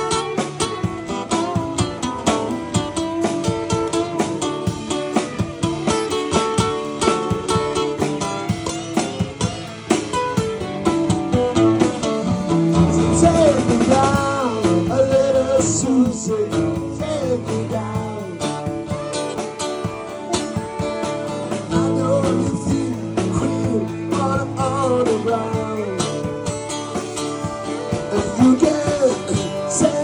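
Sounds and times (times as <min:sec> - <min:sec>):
acoustic guitar: 0:00.0 - 0:30.0
drum kit: 0:00.0 - 0:30.0
electric guitars: 0:00.0 - 0:30.0.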